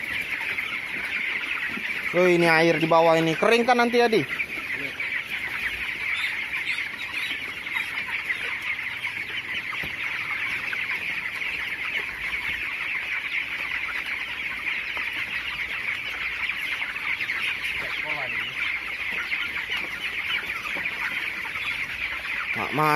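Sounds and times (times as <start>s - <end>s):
chickens peeping and chirping: 0.0s - 22.9s.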